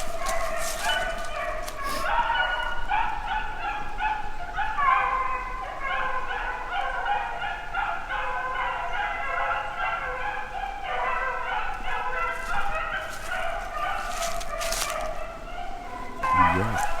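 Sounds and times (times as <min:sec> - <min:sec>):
dogs baying in chorus: 0:00.0 - 0:17.0.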